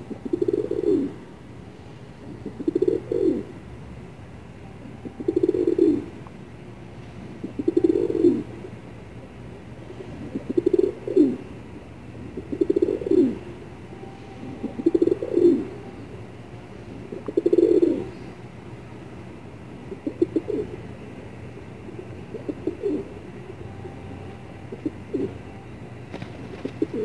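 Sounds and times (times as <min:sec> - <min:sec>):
pigeons cooing: 0:00.0 - 0:01.4, 0:02.1 - 0:03.6, 0:04.8 - 0:06.3, 0:07.3 - 0:08.9, 0:09.6 - 0:18.8, 0:19.7 - 0:27.0.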